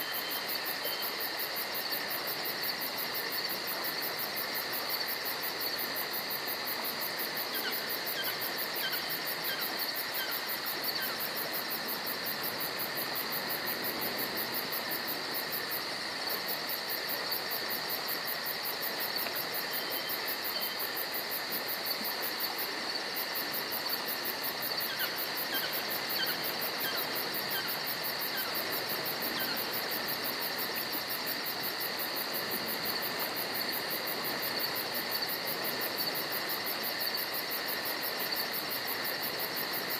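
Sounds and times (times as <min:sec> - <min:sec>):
constant hiss: 0:00.0 - 0:39.9
insects trilling: 0:00.0 - 0:39.9.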